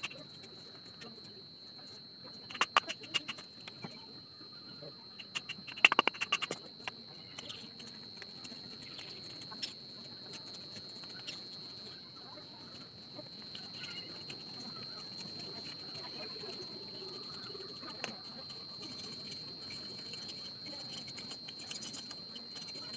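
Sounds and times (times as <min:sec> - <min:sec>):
steady high-pitched whine: 0:00.0 - 0:22.9.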